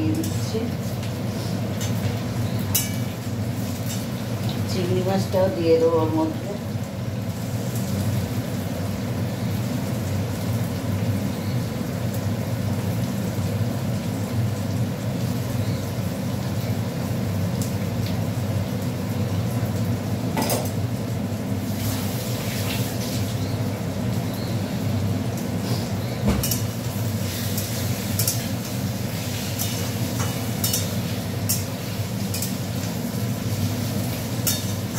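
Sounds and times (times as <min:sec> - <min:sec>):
food sizzling in a pan: 0:00.0 - 0:34.9.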